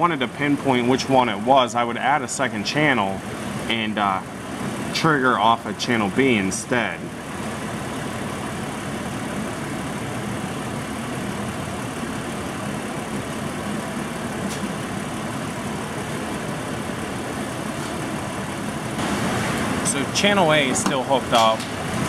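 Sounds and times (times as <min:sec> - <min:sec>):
engine idling with misfires: 0:00.0 - 0:22.0.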